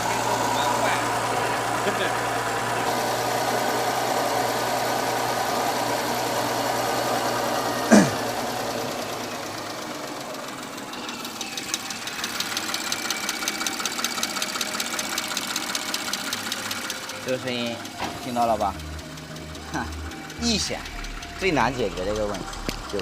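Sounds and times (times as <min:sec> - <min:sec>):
car engine running: 0:00.0 - 0:23.0
fast even engine ticking: 0:00.0 - 0:23.0.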